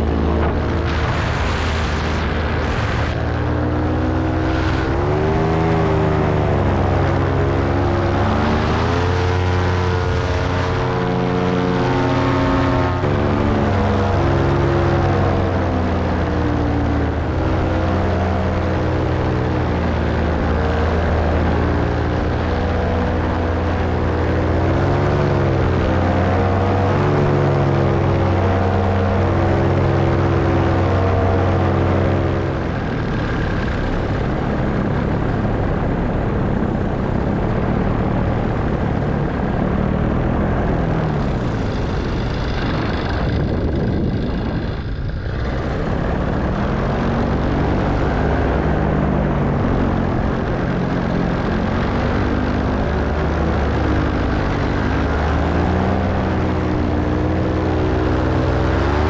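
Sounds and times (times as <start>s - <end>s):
paramotor engine droning: 0.0s - 59.0s
wind on microphone: 0.0s - 59.0s.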